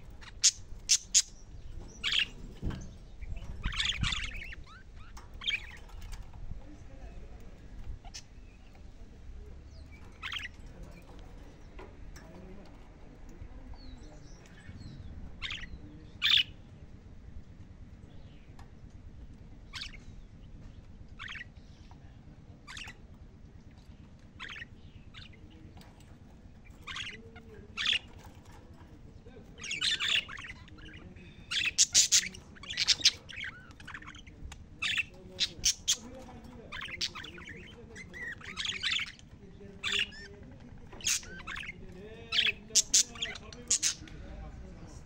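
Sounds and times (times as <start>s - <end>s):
budgerigars chirping and squawking: 0.0s - 6.4s, 7.7s - 12.3s, 13.8s - 16.8s, 19.3s - 44.1s.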